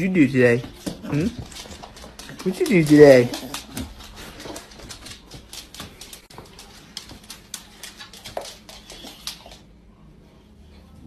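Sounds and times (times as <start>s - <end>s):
dog claws clicking on hardwood floor: 0.5s - 9.6s.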